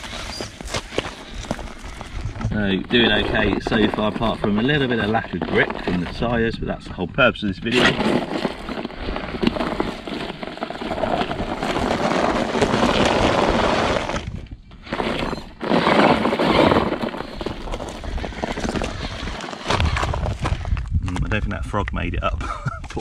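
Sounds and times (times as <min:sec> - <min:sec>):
tyres crunching over gravel: 0:00.0 - 0:21.5.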